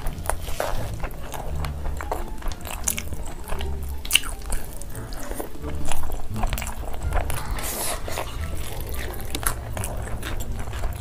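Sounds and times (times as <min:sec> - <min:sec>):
chewing food: 0:00.0 - 0:11.0
low steady hum: 0:00.0 - 0:11.0.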